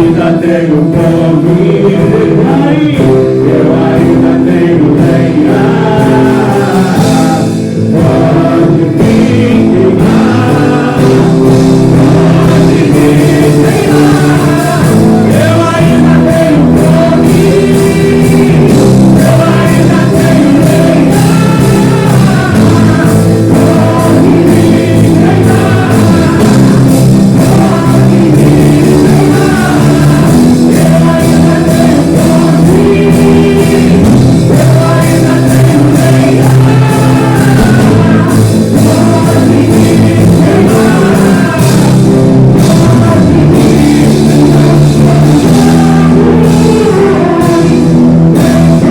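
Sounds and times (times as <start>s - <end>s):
church band playing: 0.0s - 48.9s
people singing: 0.0s - 48.9s.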